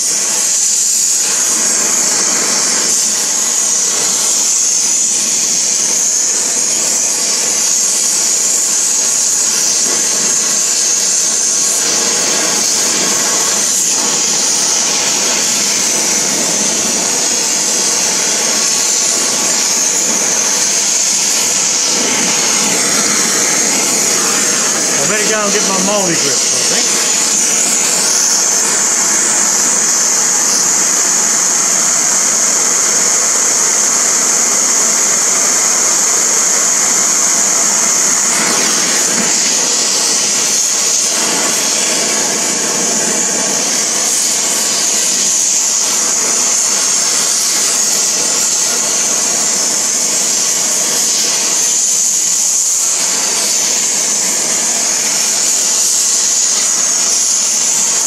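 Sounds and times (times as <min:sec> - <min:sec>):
torch flame hissing: 0:00.0 - 0:58.0.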